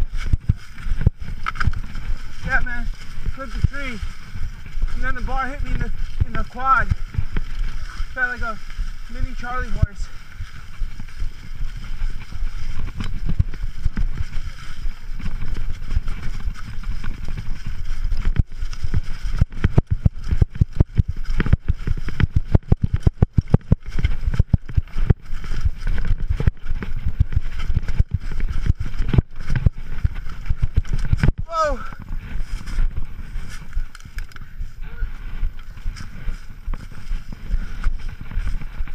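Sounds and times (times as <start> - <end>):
bike rattling over rocks: 0.0 - 38.9.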